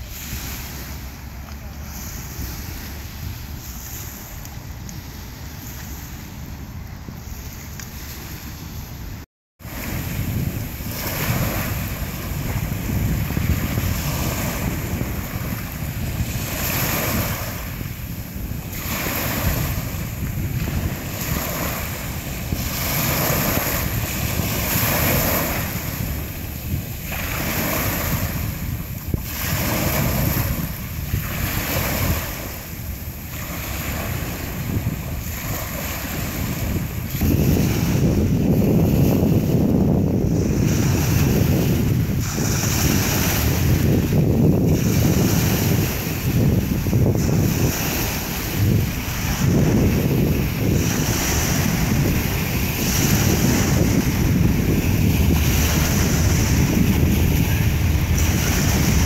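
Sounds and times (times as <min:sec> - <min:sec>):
waves washing over pebbles: 0:00.0 - 0:59.0
wind on microphone: 0:00.0 - 0:59.0.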